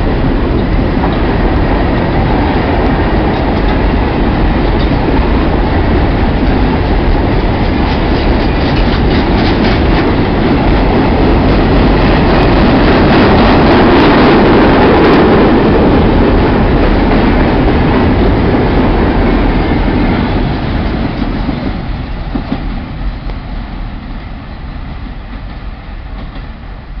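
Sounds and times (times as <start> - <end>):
freight train rolling on rails: 0.0 - 27.0.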